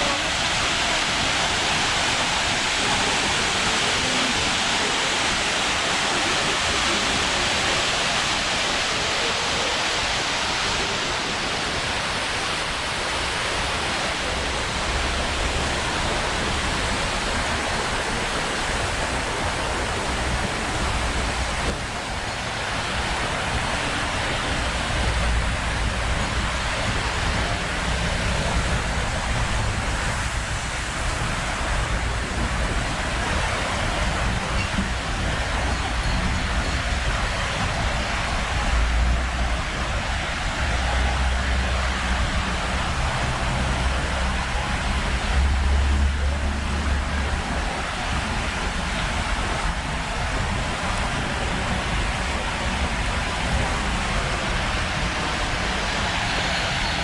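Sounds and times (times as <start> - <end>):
falling water rushing: 0.0 - 57.0
wind rumbling on microphone: 0.0 - 57.0.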